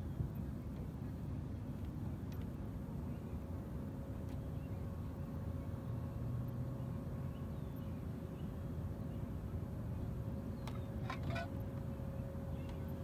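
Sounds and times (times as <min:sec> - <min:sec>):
faint steady hum: 0:00.0 - 0:13.0
low outdoor rumble: 0:00.0 - 0:13.0.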